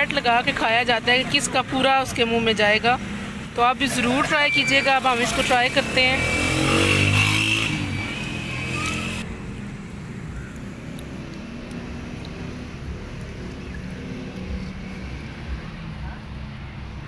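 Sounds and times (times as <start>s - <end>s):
motor vehicle running nearby: 0.0s - 17.0s
street traffic engine noise: 0.0s - 17.0s.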